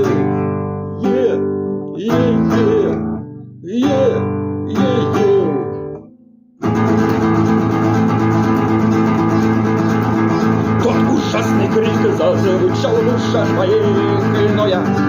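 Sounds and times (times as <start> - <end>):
guitar strumming: 0.0 - 15.0.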